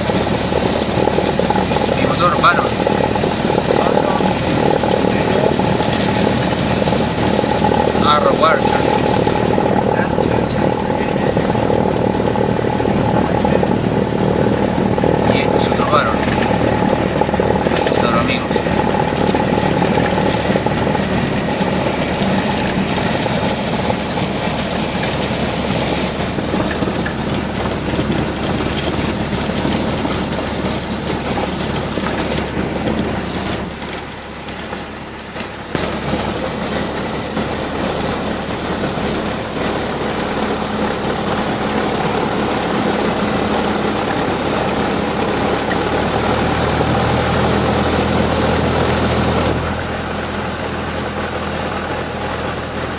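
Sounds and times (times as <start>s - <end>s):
piston aircraft engine in cabin: 0.0s - 52.9s.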